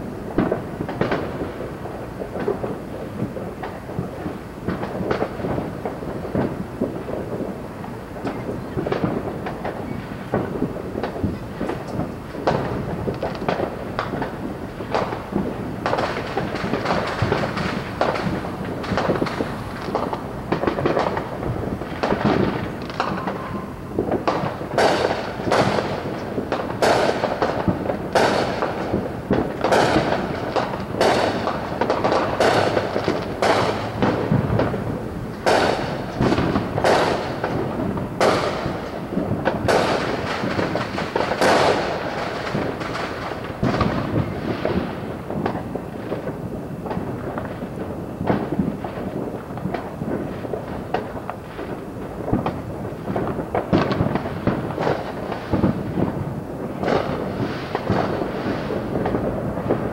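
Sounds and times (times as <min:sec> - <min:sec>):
distant fireworks bangs and crackles: 0:00.0 - 0:59.9.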